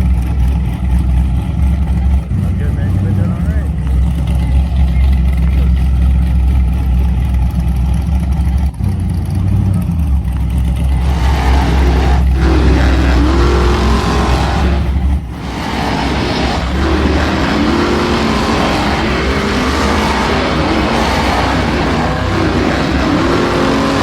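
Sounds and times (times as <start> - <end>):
vehicle motor revving: 0.0 - 24.0.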